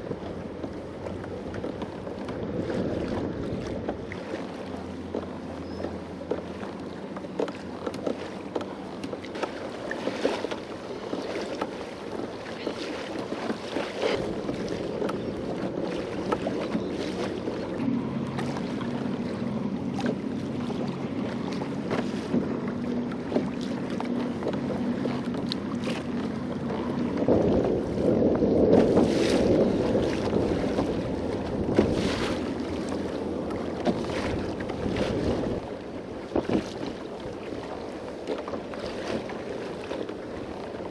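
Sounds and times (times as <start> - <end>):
wind buffeting microphone: 0.0 - 4.6, 11.0 - 40.9
water splashing against kayak hull: 0.0 - 40.9.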